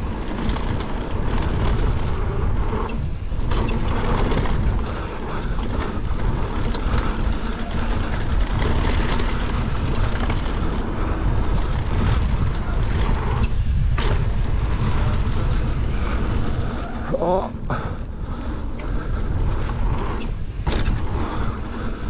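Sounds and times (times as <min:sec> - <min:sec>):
bike clicks and knocks: 0:00.0 - 0:17.0, 0:18.5 - 0:22.0
tyre noise on dirt: 0:00.0 - 0:17.5, 0:18.5 - 0:22.0
wind rushing on microphone: 0:00.0 - 0:22.0.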